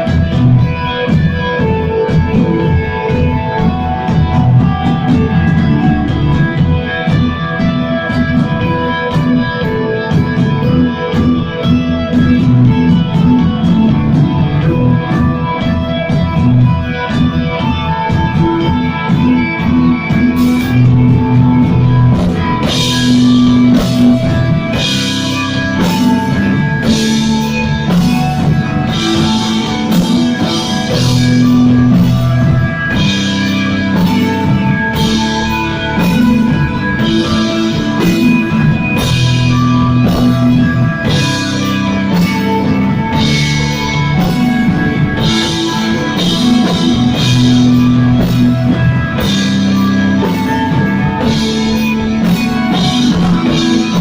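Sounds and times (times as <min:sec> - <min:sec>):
drum beat: 0:00.0 - 0:54.0
electric guitar melody: 0:00.0 - 0:54.0.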